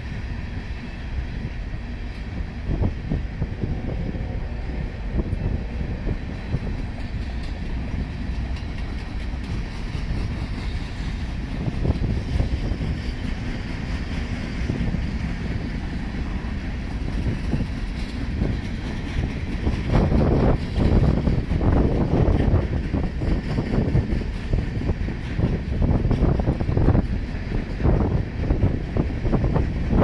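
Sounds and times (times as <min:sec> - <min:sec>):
train wheels rumbling on rail: 0:00.0 - 0:30.0
wheels clicking over rail joints: 0:05.0 - 0:30.0.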